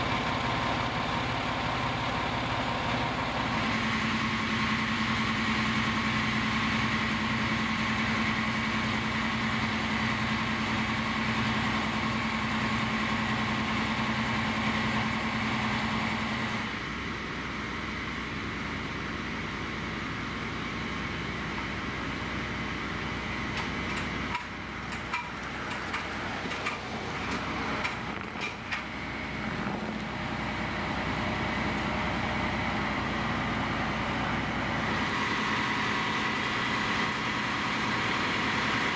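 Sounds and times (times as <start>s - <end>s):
diesel engines idling: 0.0s - 38.9s.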